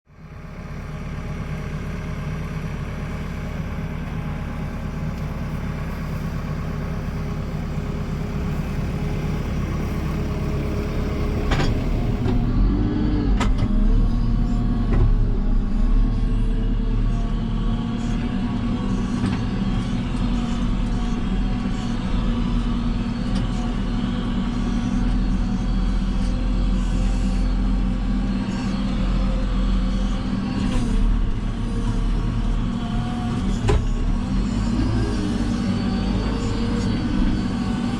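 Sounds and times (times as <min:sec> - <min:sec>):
diesel engine running: 0:00.1 - 0:37.9.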